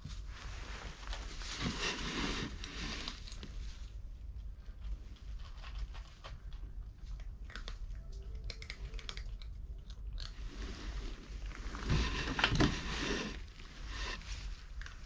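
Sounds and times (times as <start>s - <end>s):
cats crunching dry kibble: 0.9s - 15.0s.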